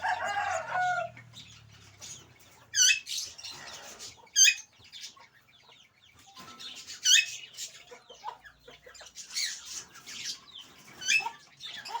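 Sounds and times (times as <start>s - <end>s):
parrots squawking and chattering: 0.0s - 5.2s, 6.6s - 12.0s.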